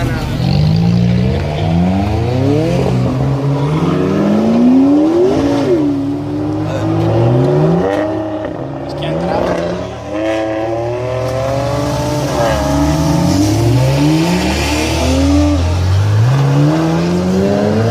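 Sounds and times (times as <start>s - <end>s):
sports car engine accelerating: 0.0s - 17.9s.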